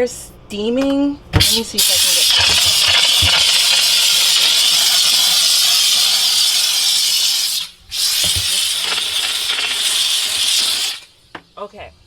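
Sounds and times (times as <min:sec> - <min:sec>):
steam cleaner hissing: 0:01.4 - 0:11.2.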